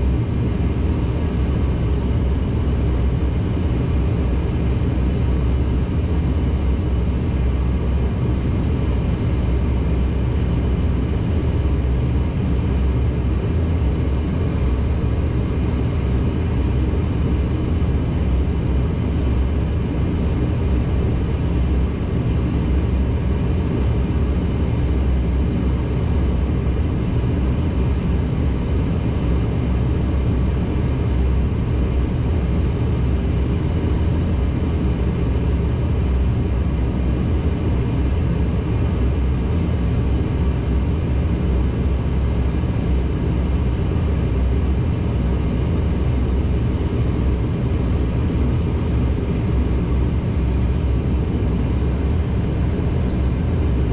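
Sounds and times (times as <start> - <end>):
steady humming tones: 0.0 - 53.9
turboprop cabin drone: 0.0 - 53.9.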